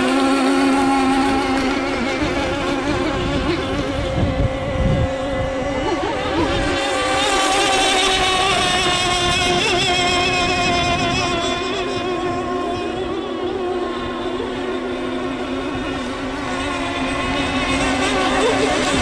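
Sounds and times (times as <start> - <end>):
model boat engine high-pitched whine: 0.0 - 19.0
wind buffeting microphone: 0.0 - 19.0.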